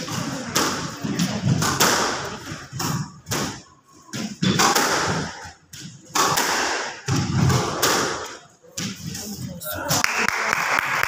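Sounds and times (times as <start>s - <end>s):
squash ball thuds: 0.0s - 9.1s.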